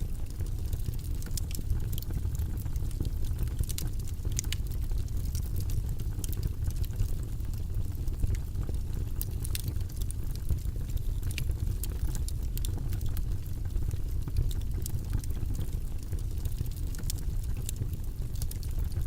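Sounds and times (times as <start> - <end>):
faint ticks and crackles: 0.0 - 19.0
low white noise rumble: 0.0 - 19.0.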